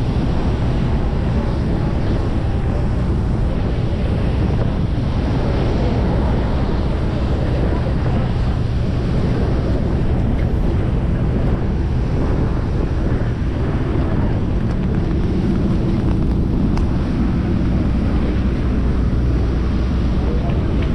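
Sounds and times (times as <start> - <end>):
low rumble of boat and water: 0.0 - 20.9
wind buffeting microphone: 0.0 - 20.9.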